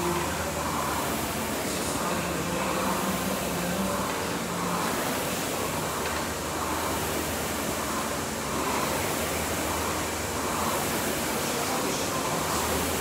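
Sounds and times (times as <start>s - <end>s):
rowing machine flywheel whooshing: 0.0s - 13.0s.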